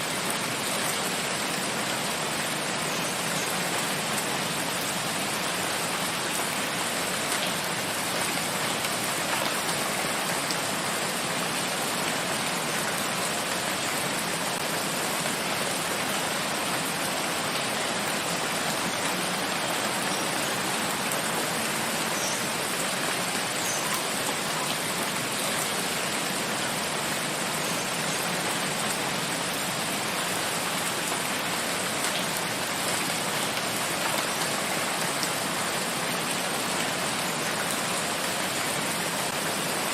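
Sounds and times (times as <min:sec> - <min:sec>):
heavy rain in forest: 0:00.0 - 0:39.9.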